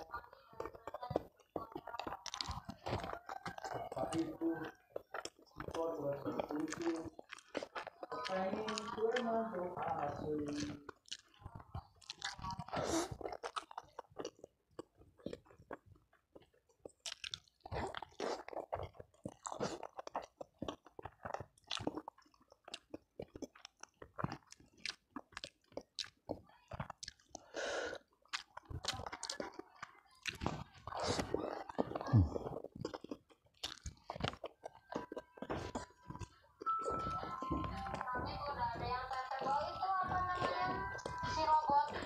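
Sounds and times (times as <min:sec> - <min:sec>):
wet chewing with crunching: 0:00.0 - 0:42.0.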